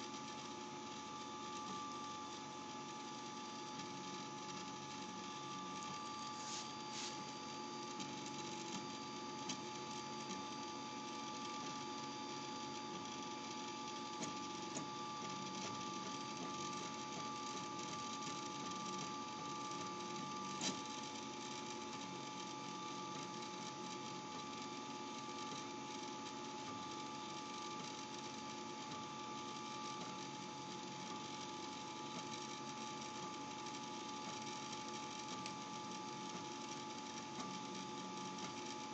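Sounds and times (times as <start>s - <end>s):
steady hum with held tones: 0.0s - 38.9s.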